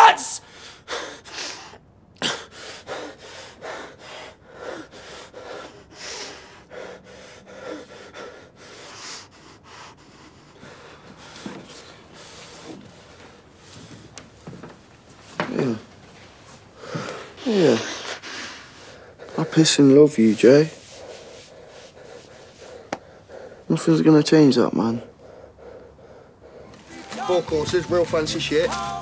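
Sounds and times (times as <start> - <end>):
person breathing hard: 0.4 - 14.7, 15.3 - 28.0.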